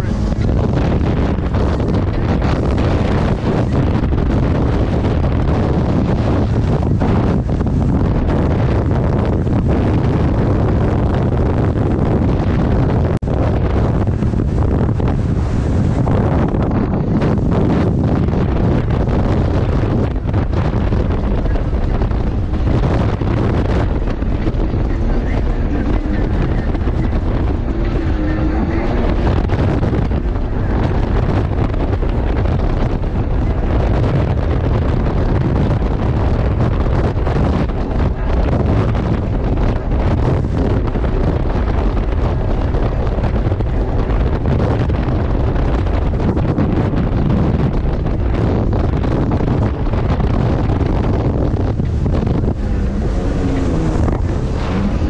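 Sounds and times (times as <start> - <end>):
jet ski engine running: 0.0 - 55.0
water rushing under hull: 0.0 - 55.0
wind buffeting microphone: 0.0 - 55.0.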